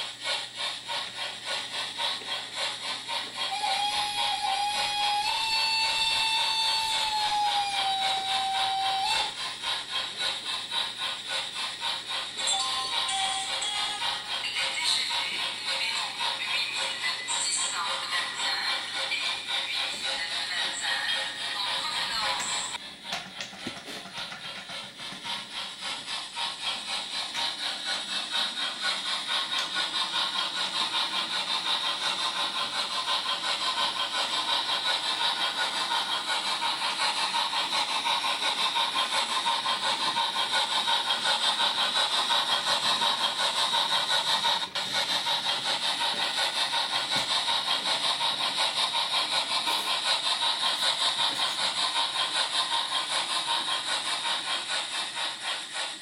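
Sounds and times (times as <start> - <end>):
model steam locomotive pulsing: 0.0 - 56.0.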